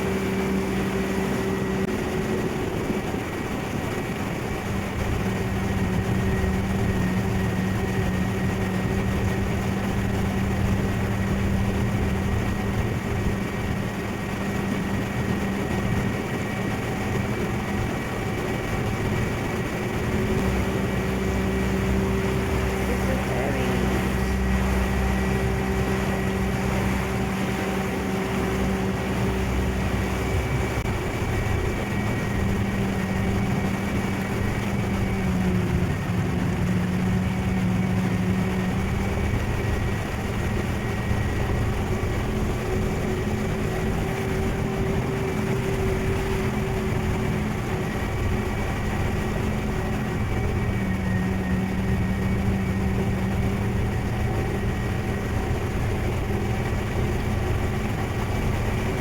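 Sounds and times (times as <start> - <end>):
ferry engine humming: 0.0 - 59.0
water noise: 0.0 - 59.0
wind: 0.0 - 59.0.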